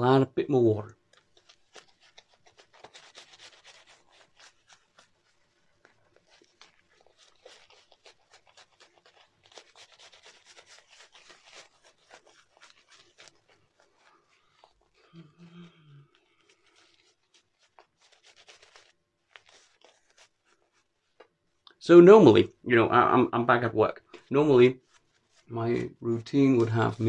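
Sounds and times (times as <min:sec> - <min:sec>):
shaving brush rubbing lather: 0:00.9 - 0:27.0.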